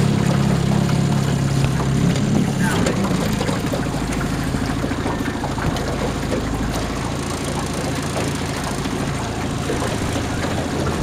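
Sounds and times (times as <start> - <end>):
motorboat engine humming: 0.0 - 11.0
water noise: 0.0 - 11.0.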